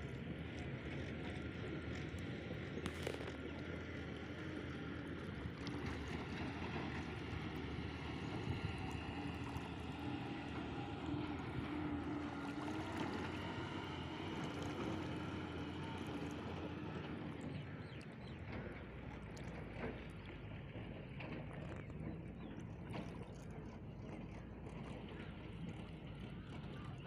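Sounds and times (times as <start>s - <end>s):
water sloshing and trickling: 0.0s - 27.0s.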